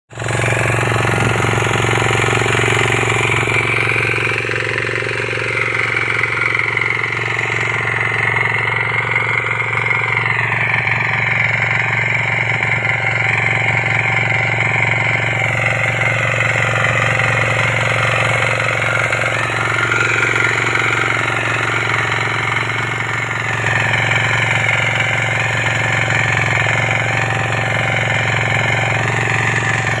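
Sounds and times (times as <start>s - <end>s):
diesel power weeder knocking: 0.1s - 30.0s.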